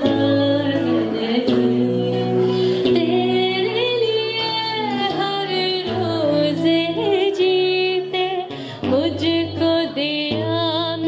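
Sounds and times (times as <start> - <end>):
sustained low backing notes: 0.0 - 10.4
woman singing with vibrato: 0.0 - 11.0.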